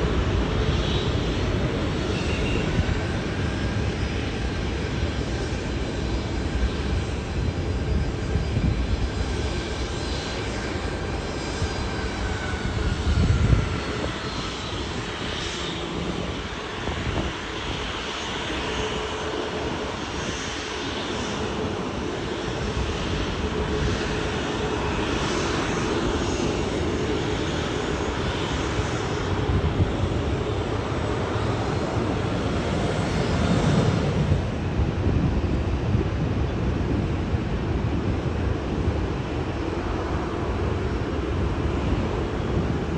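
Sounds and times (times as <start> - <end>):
jet engines running: 0.0 - 42.9
wind buffeting microphone: 0.0 - 42.9.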